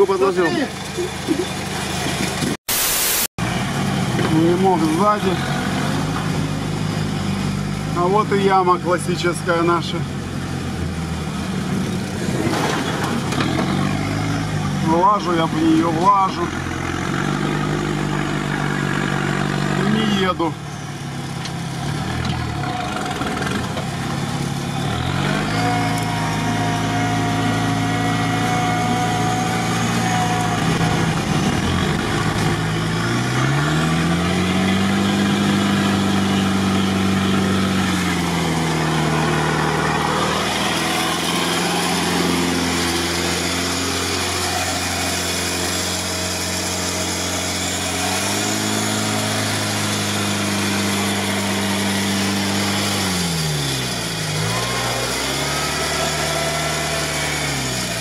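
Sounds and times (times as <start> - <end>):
off-road truck engine revving: 0.0 - 2.8, 3.4 - 58.0.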